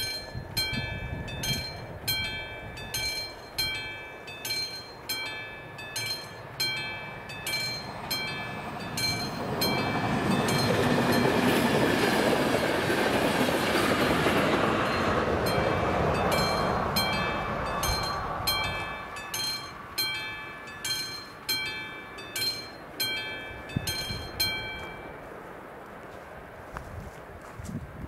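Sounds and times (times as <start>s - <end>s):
level crossing warning bell: 0.0s - 12.7s, 14.7s - 25.3s
train coaches rumbling over rails: 0.0s - 28.0s.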